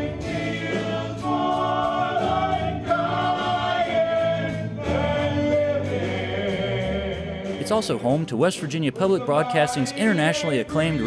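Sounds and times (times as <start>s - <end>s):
choir singing: 0.0s - 8.2s, 8.9s - 11.0s.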